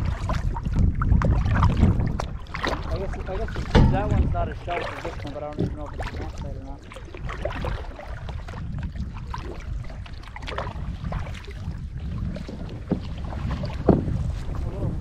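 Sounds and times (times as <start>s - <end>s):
steady low rumble: 0.0s - 13.6s
paddle splashing in water: 0.0s - 15.0s
water trickling off paddle: 0.0s - 15.0s.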